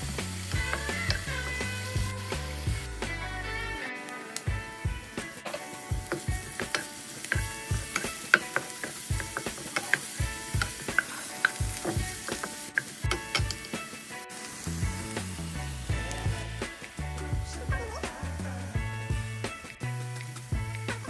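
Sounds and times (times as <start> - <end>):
oil sizzling: 0.0 - 21.0.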